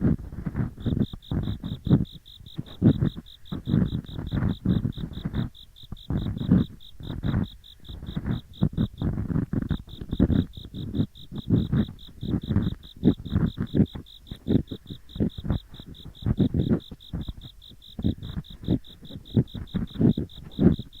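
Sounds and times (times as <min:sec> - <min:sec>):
ear picks scraping microphone: 0:00.0 - 0:21.0
insects chirping: 0:00.0 - 0:21.0.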